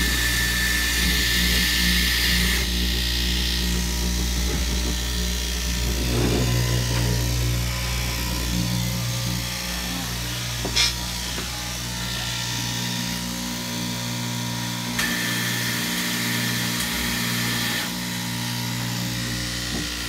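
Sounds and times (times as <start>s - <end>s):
higher machine whine: 0.0s - 19.1s
cloth cutting machine motor hum: 0.0s - 20.0s.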